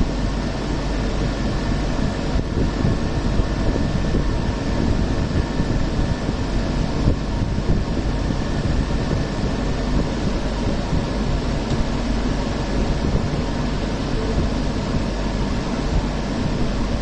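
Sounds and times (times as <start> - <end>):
faint steady whine: 0.0 - 17.0
tram car rumbling on track: 0.0 - 17.0.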